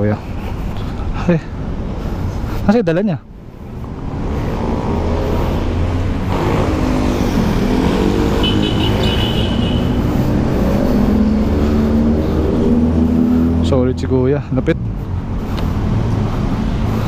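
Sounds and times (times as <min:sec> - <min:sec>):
passing road traffic: 0:00.0 - 0:17.0.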